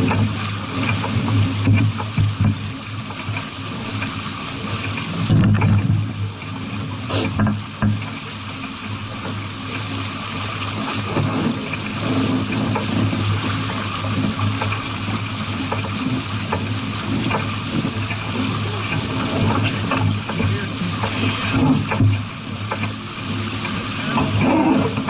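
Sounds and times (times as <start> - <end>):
water rushing past a hull: 0.0 - 25.0.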